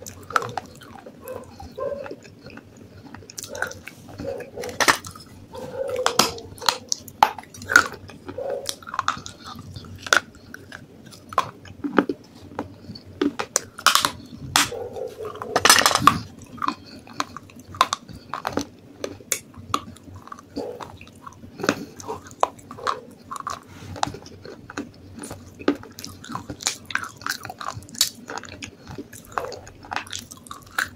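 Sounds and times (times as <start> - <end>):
crunching and chewing clay: 0.0 - 30.9.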